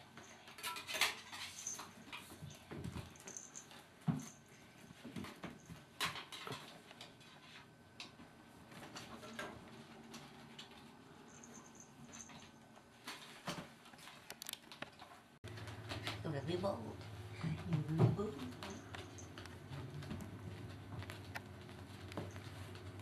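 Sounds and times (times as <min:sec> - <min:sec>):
kittens scuffling and pattering: 0:00.1 - 0:23.0.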